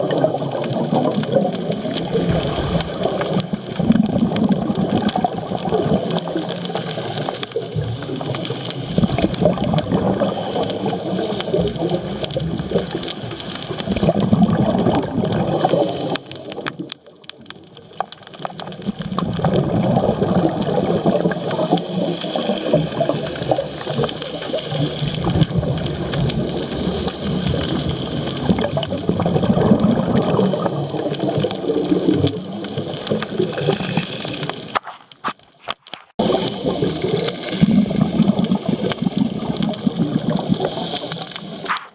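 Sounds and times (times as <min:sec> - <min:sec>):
underwater bubbling and gurgling: 0:00.0 - 0:41.9.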